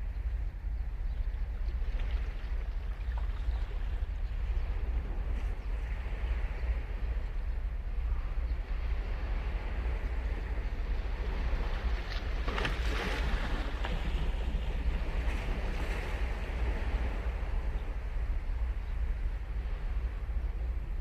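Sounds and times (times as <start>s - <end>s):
low wind rumble on microphone: 0.0s - 21.0s
ocean waves on beach: 1.7s - 21.0s.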